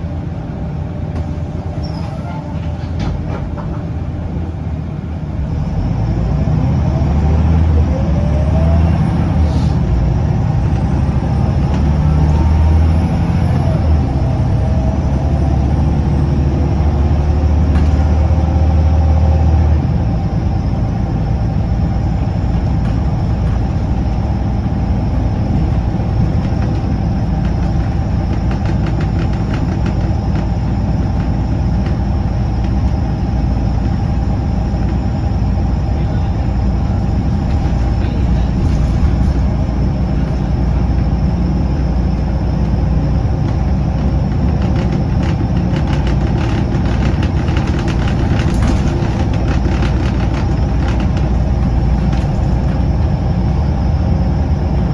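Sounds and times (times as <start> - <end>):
bus diesel engine running: 0.0 - 54.9
road noise: 0.0 - 54.9.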